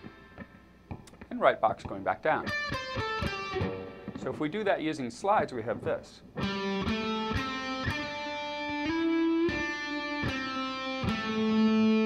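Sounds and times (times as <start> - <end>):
electric guitar lick: 0.0 - 4.5, 5.7 - 12.0.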